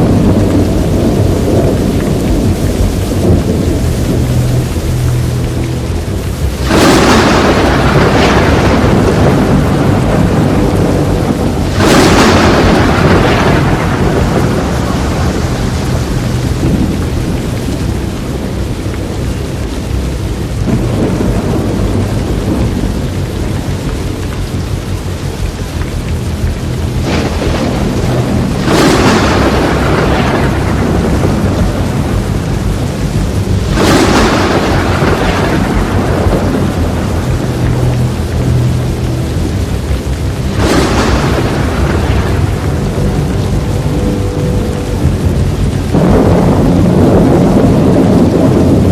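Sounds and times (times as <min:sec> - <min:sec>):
loud thunder cracks: 0:00.0 - 0:04.9, 0:05.8 - 0:25.8, 0:26.6 - 0:48.9
heavy rain: 0:00.0 - 0:48.9
rolling thunder: 0:00.0 - 0:48.9.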